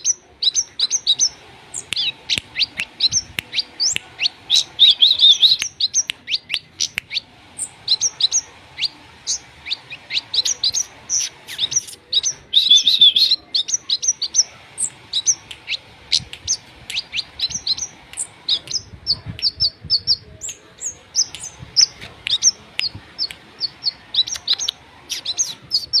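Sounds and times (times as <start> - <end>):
bird warbling trill: 0.0 - 26.0
songbird chirping and whistling: 0.0 - 26.0.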